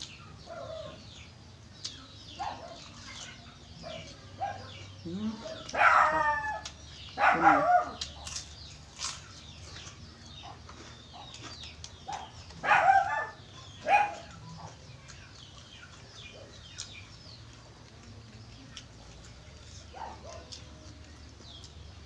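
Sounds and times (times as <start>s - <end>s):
chickens calling: 0.0s - 22.0s
faint eating clicks and crunches: 0.0s - 22.0s.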